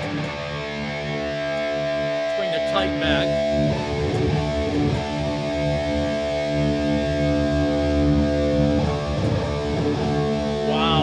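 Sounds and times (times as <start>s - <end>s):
distorted electric guitar chords: 0.0s - 11.0s.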